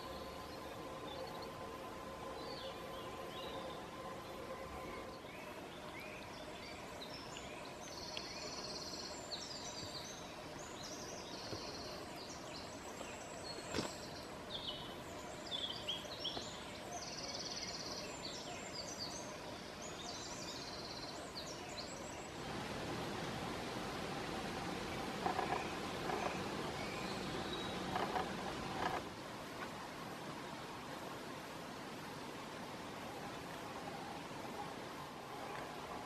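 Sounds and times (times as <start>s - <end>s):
songbirds trilling: 0.0s - 29.2s
steady background hiss: 0.0s - 36.0s.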